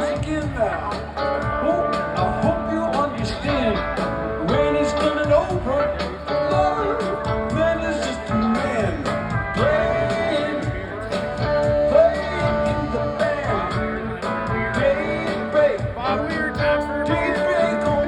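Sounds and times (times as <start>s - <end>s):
live rock band playing: 0.0s - 18.0s
steady drum beat: 0.0s - 18.0s.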